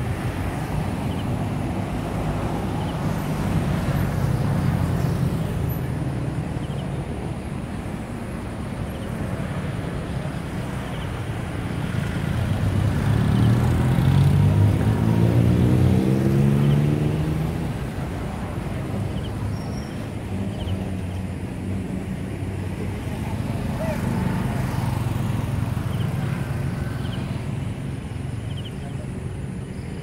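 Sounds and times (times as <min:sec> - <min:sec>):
low hum of road traffic: 0:00.0 - 0:30.0
vehicle passing close by: 0:00.0 - 0:30.0.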